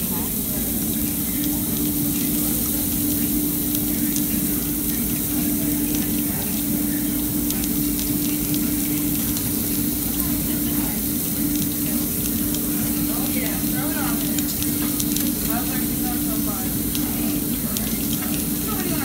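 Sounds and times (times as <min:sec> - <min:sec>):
constant low hum: 0:00.0 - 0:19.0
meat sizzling on a grill: 0:00.0 - 0:19.0.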